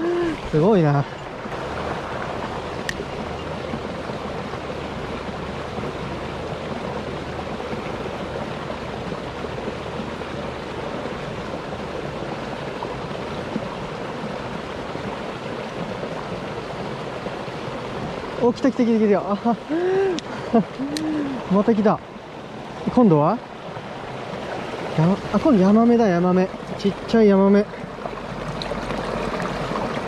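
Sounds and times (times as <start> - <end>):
shallow river rushing: 0.0 - 30.0.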